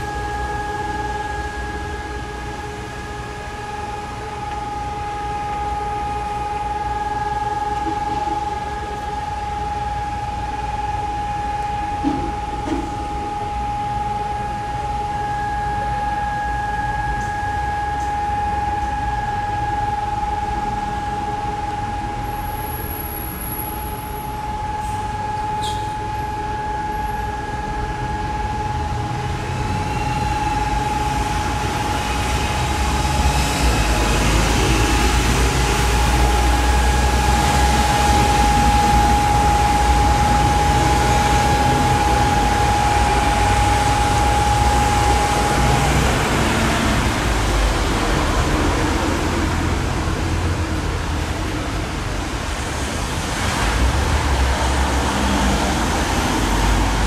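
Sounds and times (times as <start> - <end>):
bus pulling in: 0.0 - 57.0
street traffic rumble: 0.0 - 57.0
warning siren steady tone: 0.0 - 57.0.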